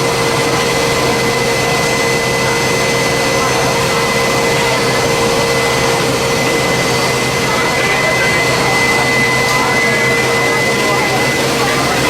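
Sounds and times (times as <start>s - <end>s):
high-pitched whine: 0.0s - 12.0s
jet engines rushing: 0.0s - 12.0s.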